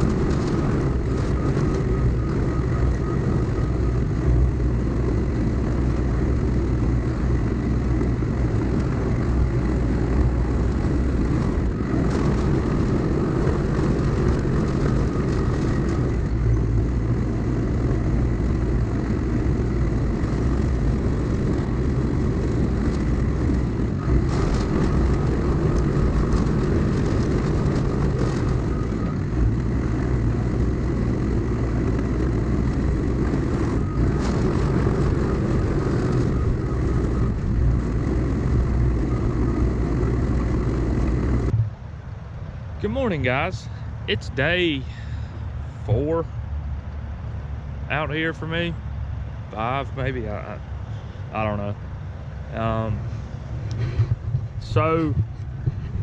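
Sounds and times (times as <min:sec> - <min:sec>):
diesel engine droning: 0:00.0 - 0:56.0
thin steady whine: 0:00.0 - 0:56.0.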